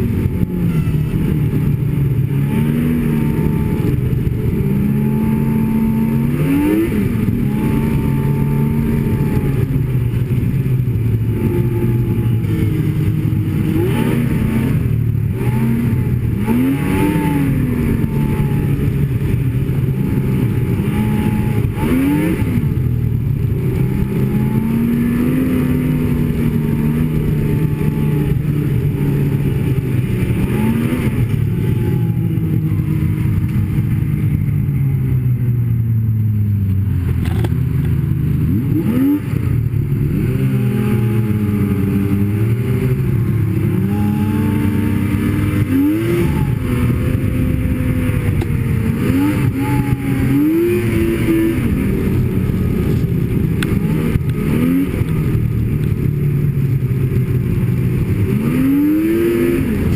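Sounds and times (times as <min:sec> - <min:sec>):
snowmobile engine revving: 0:00.0 - 0:34.9, 0:36.9 - 0:59.9.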